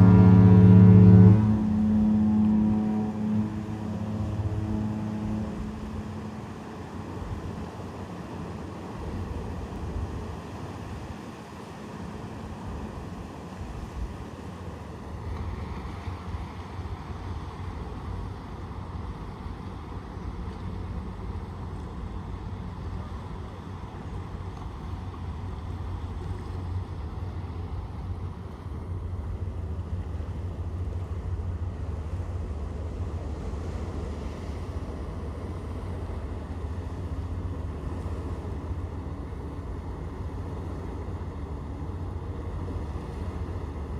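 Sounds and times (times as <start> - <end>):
ship engines rumbling: 0.0 - 43.9.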